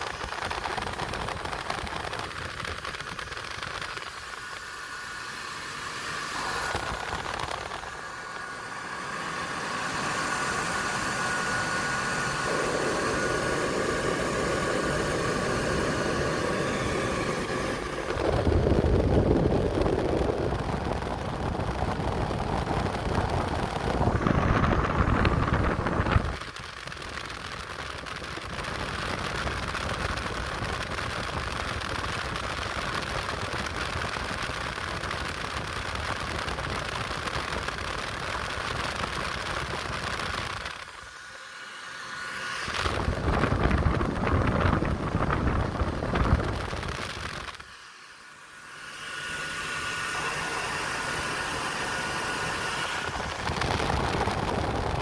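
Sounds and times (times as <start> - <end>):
blower fan whirring: 0.0 - 55.0.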